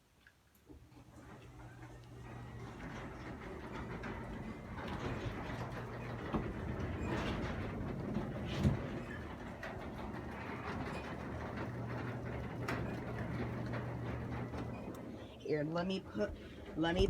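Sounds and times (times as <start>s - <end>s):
garage door opener humming: 0.8s - 17.0s.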